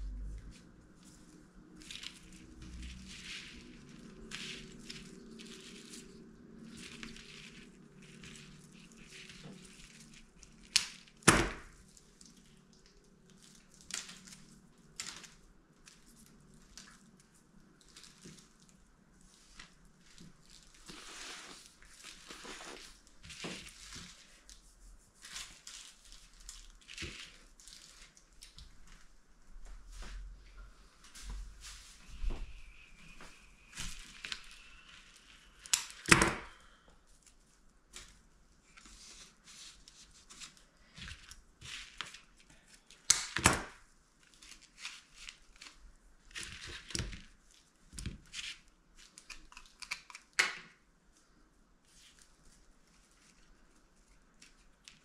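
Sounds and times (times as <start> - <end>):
balloons and craft materials rustling: 0.0 - 55.0.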